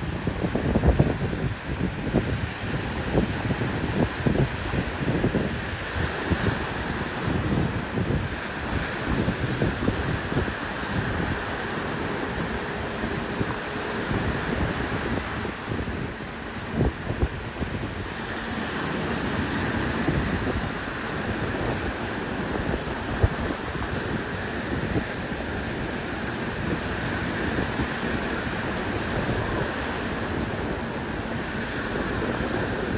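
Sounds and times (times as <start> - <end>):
ocean surf breaking on beach: 0.0 - 32.9
wind buffeting microphone: 0.0 - 32.9.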